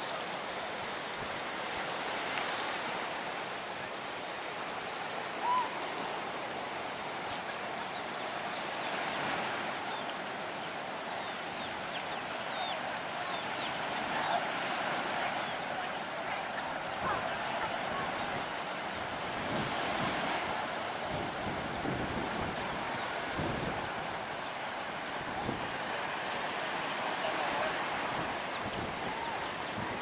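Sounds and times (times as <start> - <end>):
ocean surf: 0.0 - 30.0.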